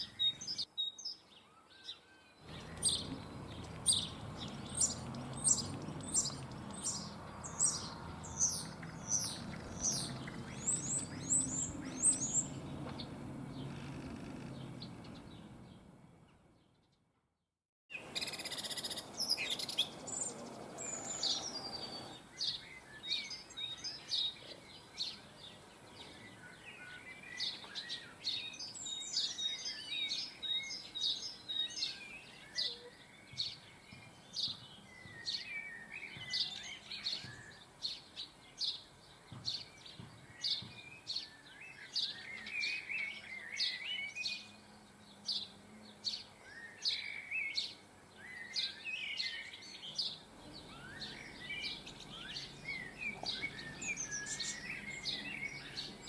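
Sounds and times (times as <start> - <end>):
birds chirping and twittering: 0.0 - 17.2, 17.9 - 56.0.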